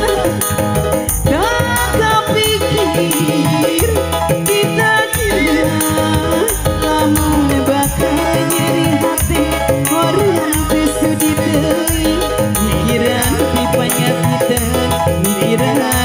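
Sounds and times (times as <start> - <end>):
keyboard: 0.0 - 16.0
steady drum beat: 0.0 - 16.0
woman singing into microphone: 0.0 - 16.0.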